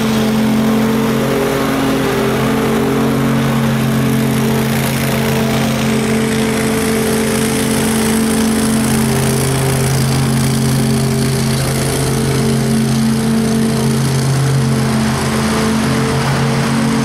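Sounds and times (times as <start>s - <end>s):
lawn mower engine humming: 0.0s - 17.0s.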